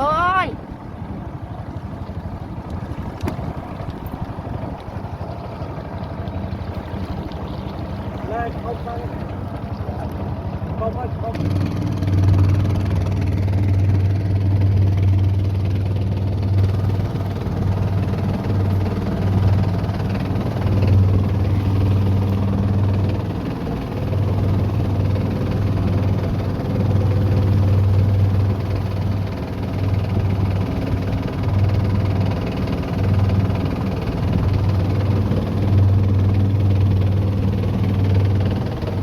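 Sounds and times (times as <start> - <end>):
boat engine humming: 0.0 - 39.0.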